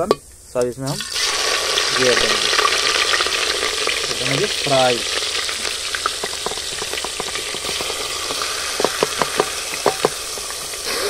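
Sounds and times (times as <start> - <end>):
oil sizzling and spitting: 0.9 - 11.0.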